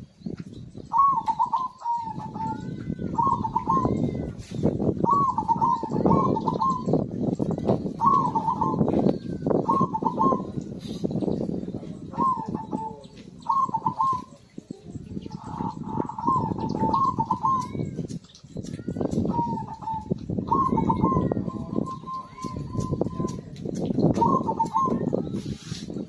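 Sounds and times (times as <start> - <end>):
dove cooing: 0.9 - 18.4, 19.2 - 23.4, 24.0 - 25.7.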